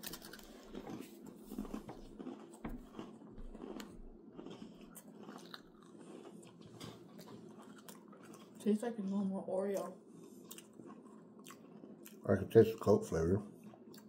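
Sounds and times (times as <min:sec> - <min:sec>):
chewing and crunching cookies: 0:00.0 - 0:14.0.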